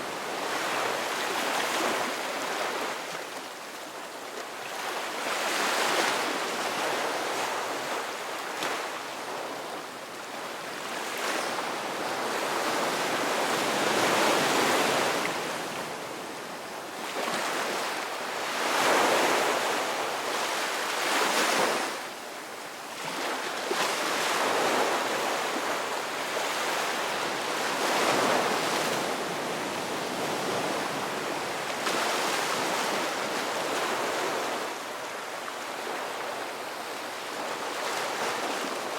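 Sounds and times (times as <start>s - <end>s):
ocean waves washing on shore: 0.0s - 38.9s.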